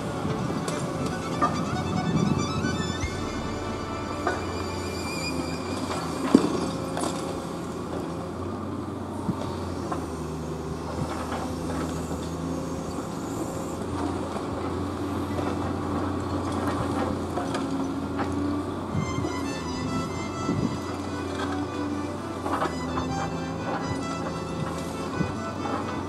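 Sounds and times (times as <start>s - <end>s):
excavator engine and hydraulics humming: 0.0s - 26.0s.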